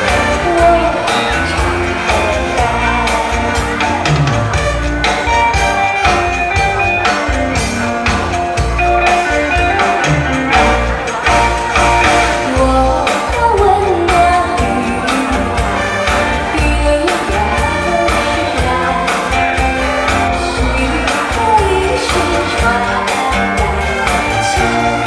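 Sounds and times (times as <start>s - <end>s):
backing track with steady beat: 0.0s - 25.0s
person singing pop song: 0.0s - 25.0s.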